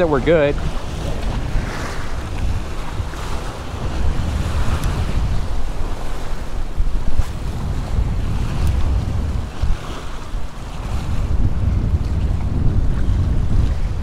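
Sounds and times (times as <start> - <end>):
surf washing against rocks: 0.0 - 14.0
wind rumbling on microphone: 0.0 - 14.0.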